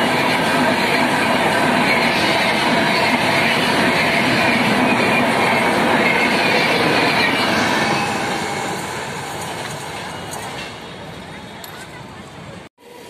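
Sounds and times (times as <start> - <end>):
train wheels rushing on rail: 0.0 - 12.7.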